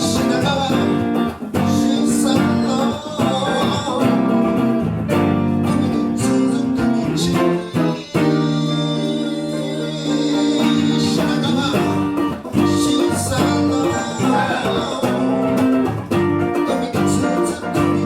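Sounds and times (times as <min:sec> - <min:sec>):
guitar: 0:00.0 - 0:18.0
live band playing: 0:00.0 - 0:18.0.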